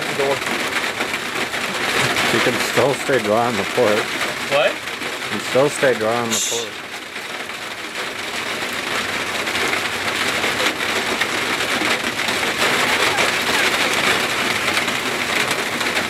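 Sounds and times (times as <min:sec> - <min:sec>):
heavy rain pouring: 0:00.0 - 0:16.0
rain ticking on hard surfaces: 0:00.0 - 0:16.0.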